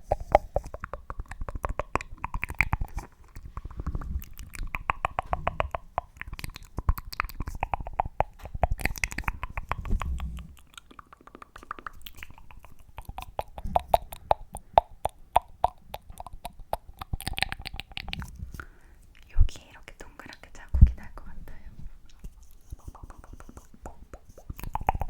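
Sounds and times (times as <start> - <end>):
fast tapping clicks: 0.0 - 18.2, 22.8 - 25.0
mouth sounds: 0.0 - 19.5, 22.1 - 25.0.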